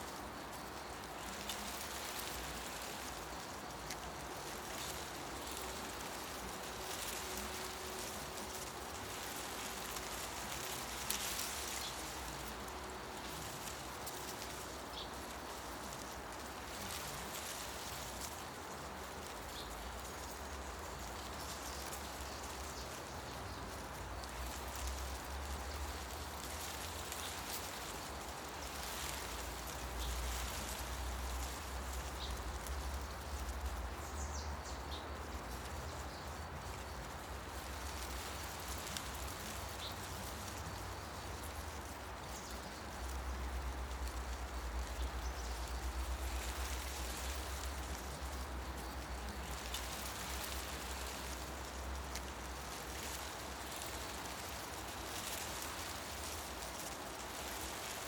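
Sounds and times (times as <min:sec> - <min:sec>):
wind rustling leaves: 0:00.0 - 0:58.0.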